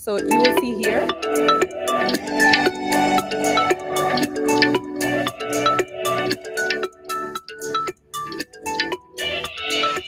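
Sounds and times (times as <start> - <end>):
light tune of struck notes: 0.0 - 9.0.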